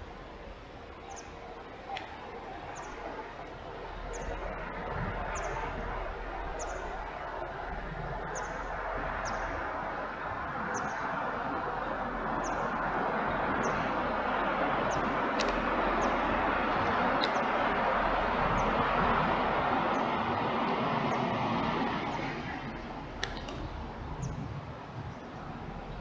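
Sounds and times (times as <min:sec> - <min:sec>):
steady rushing background: 0:00.0 - 0:26.0.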